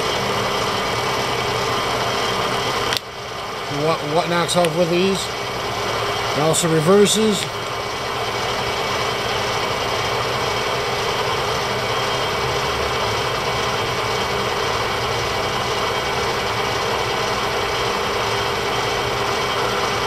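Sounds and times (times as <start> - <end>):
milling machine running: 0.0 - 20.0.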